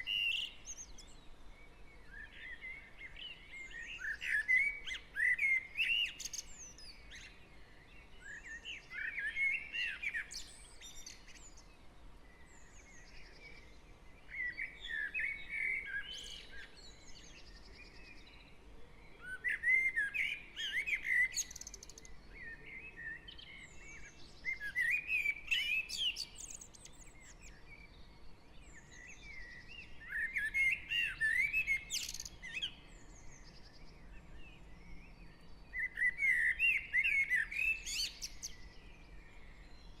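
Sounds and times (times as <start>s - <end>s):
faint bird chirps: 0.0s - 40.0s.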